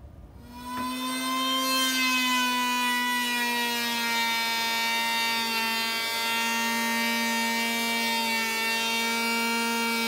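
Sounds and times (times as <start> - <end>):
electric planer whining: 0.4 - 10.0.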